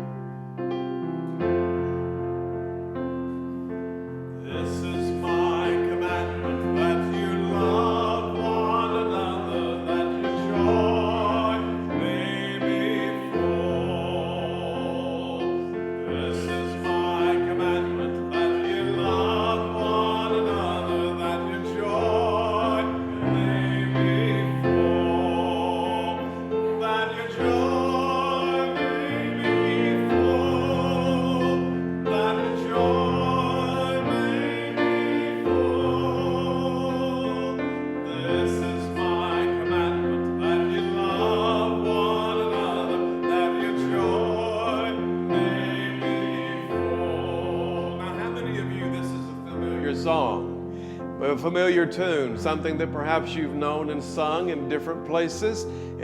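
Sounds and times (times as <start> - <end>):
church chorus singing: 0.0 - 56.0
piano accompaniment: 0.0 - 56.0.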